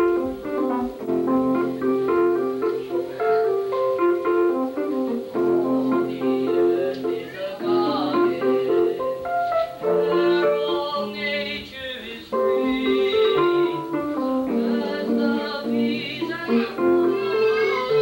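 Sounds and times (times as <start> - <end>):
piano playing a tune: 0.0 - 18.0
voices singing: 0.0 - 18.0.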